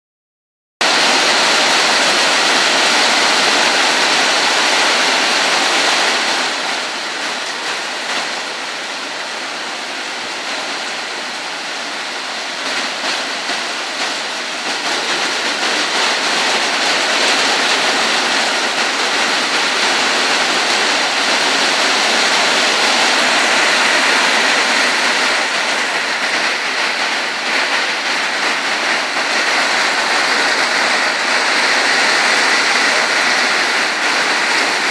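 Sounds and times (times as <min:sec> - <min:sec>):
heavy rain pouring: 0:00.8 - 0:34.9.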